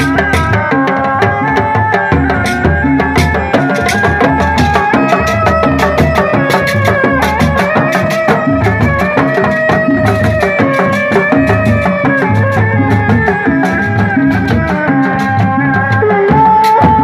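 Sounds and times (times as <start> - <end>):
drums beating fast rhythm: 0.0 - 17.0
wavering melody line: 0.0 - 17.0.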